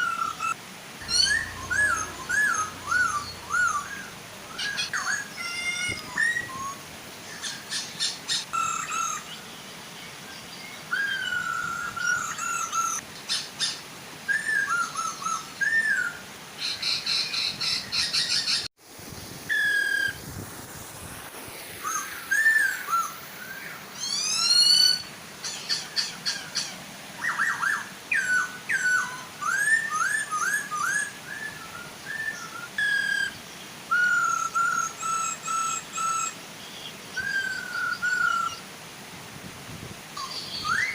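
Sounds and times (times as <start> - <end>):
birds calling with whistled notes: 0.0 - 20.2, 21.8 - 38.7, 40.2 - 40.9
waterfall hiss: 0.0 - 40.9.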